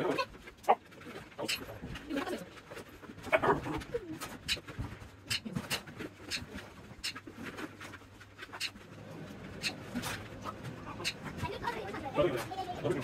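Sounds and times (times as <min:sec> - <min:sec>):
puppies whining and squeaking: 0:00.0 - 0:07.7, 0:08.4 - 0:11.4.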